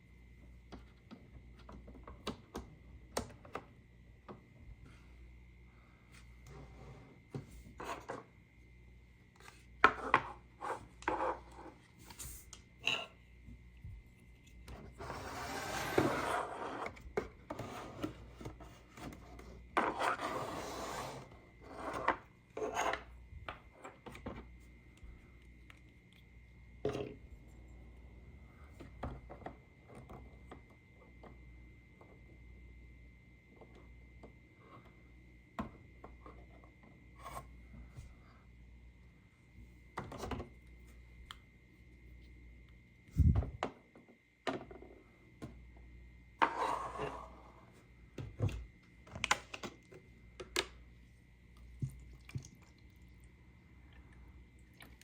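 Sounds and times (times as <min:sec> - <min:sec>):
faint high whine: 0:00.0 - 0:55.0.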